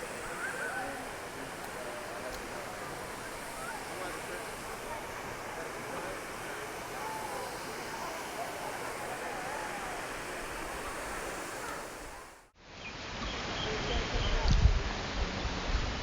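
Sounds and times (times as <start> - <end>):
steady outdoor rushing noise: 0.0 - 13.2.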